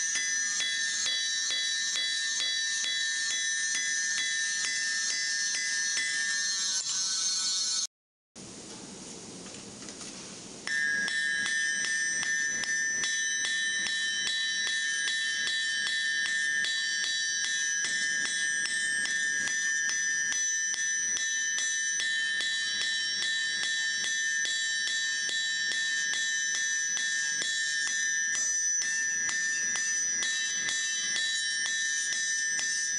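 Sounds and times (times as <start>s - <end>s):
hammer striking steel on anvil: 0.0s - 7.4s, 10.7s - 32.9s
anvil ringing: 0.0s - 7.9s, 10.7s - 32.9s.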